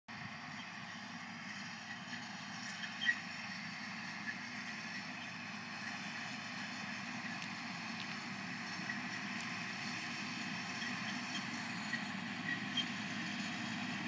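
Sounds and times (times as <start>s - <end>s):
tractor diesel engine running: 0.1s - 14.0s.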